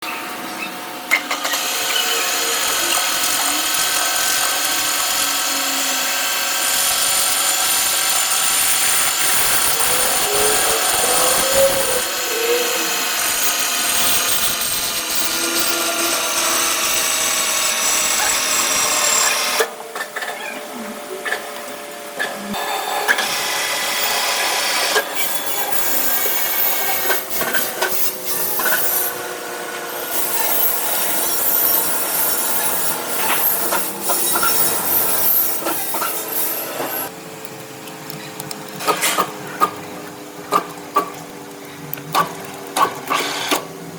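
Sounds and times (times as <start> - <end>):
machine cutting metal whine: 0.1 - 19.8, 21.7 - 39.2.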